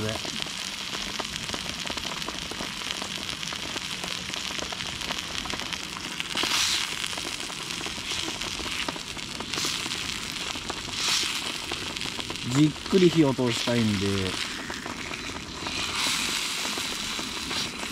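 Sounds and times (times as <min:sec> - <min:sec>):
meat searing in hot oil: 0:00.0 - 0:17.9.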